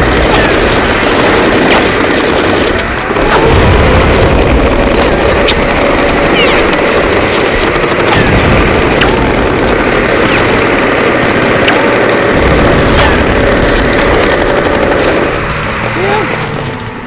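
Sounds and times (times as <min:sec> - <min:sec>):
booms: 0:00.0 - 0:16.0
continuous gunfire: 0:00.0 - 0:17.0.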